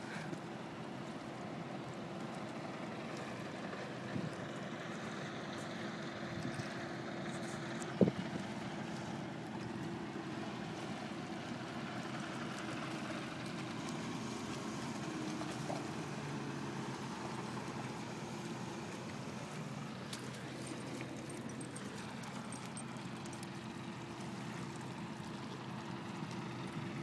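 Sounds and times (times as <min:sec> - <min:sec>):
light outdoor noise: 0:00.0 - 0:27.0.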